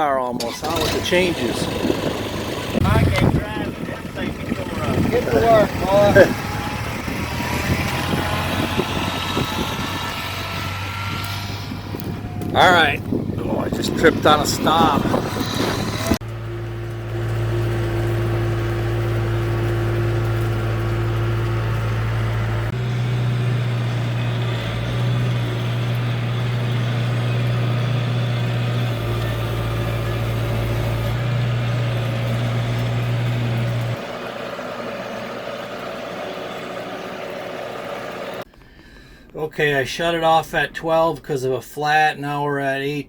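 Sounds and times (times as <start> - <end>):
tractor diesel engine running: 0.0 - 39.3.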